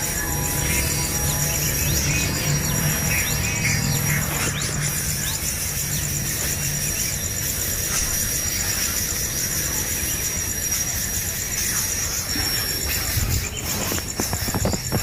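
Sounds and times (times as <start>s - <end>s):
pulsing high insect trill: 0.0s - 15.0s.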